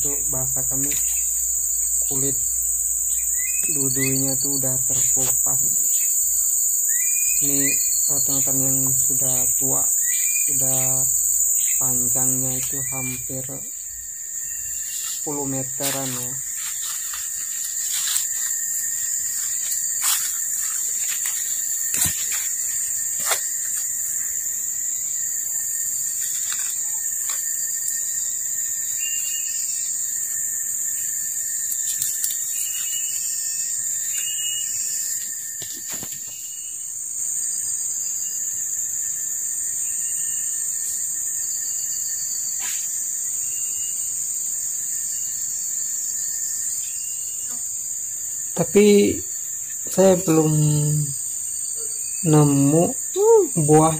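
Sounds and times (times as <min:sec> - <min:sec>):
insects buzzing chorus: 0:00.0 - 0:53.9.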